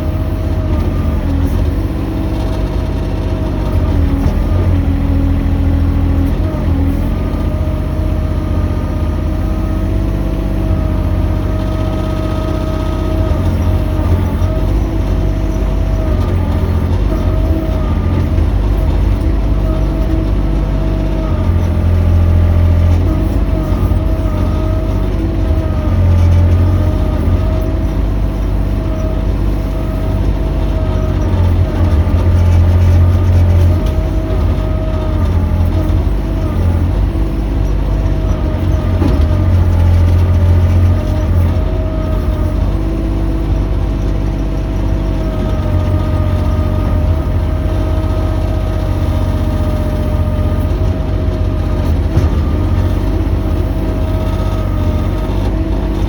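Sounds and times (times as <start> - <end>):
excavator engine running: 0.0 - 56.0
hydraulic whine: 0.0 - 56.0.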